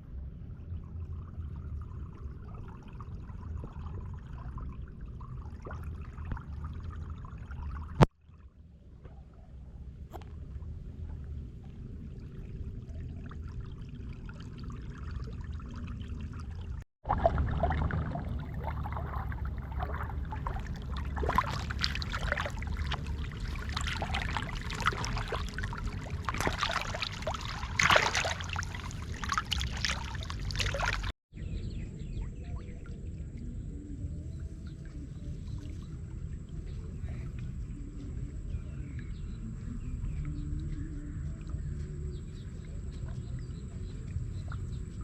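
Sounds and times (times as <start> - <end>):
water splashing and trickling: 0.2 - 31.2, 32.1 - 45.0.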